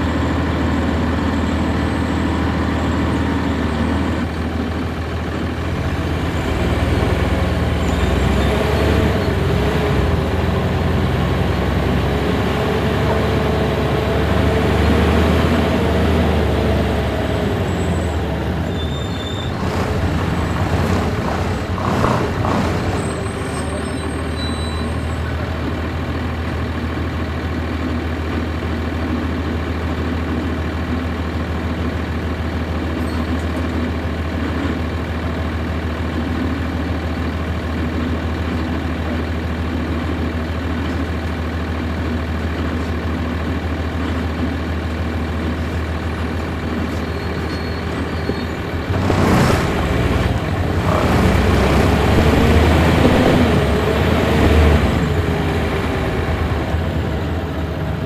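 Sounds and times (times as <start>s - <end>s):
diesel bus engine humming: 0.0s - 58.0s.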